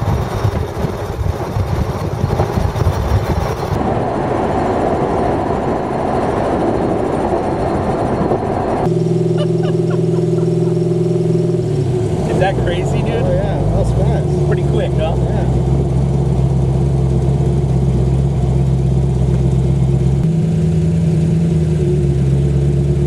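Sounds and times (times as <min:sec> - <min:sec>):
car engine driving: 0:00.0 - 0:23.0
road noise: 0:00.0 - 0:23.0.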